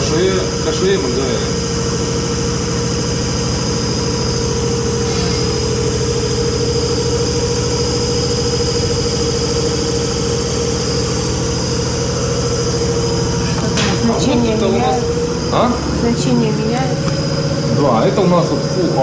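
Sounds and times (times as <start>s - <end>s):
fuel pump drone with whine: 0.0s - 19.0s.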